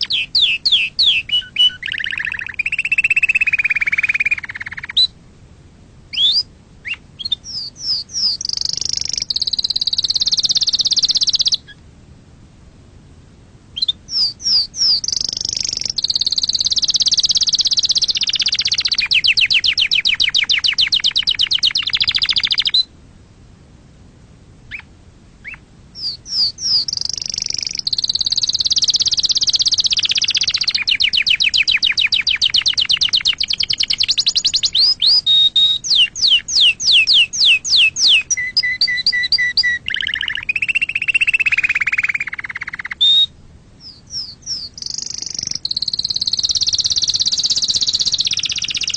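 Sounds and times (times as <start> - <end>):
canary singing: 0.0 - 5.2, 6.1 - 11.8, 13.8 - 22.9, 24.7 - 48.9.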